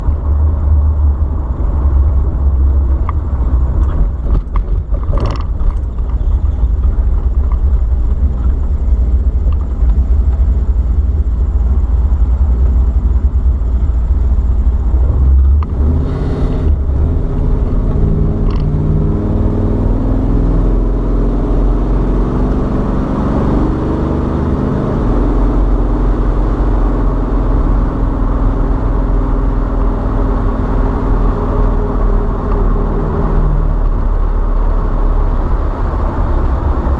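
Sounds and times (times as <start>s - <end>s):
car low rumble: 0.0s - 36.9s.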